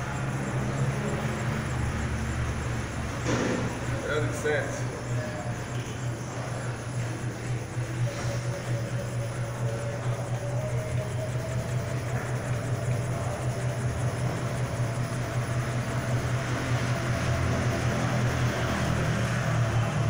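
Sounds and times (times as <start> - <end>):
test rig mechanical hum: 0.0 - 20.0.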